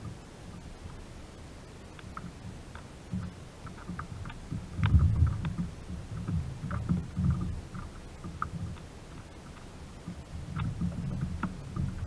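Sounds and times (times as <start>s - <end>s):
light ticks: 1.9s - 12.0s.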